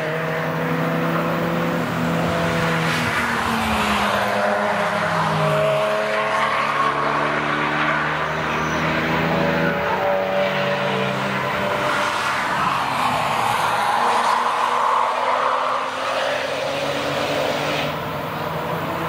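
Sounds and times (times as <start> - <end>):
car engines accelerating: 0.0 - 19.0
tyre and road noise: 0.0 - 19.0.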